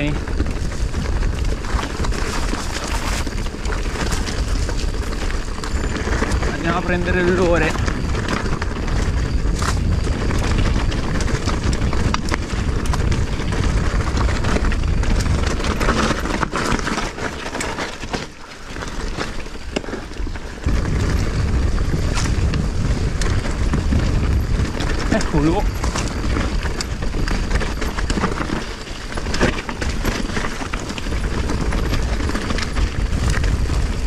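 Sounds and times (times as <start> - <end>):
bike clicks and rattles: 0.0 - 34.0
bike tyres running over dirt: 0.0 - 34.0
wind buffeting microphone: 0.0 - 34.0.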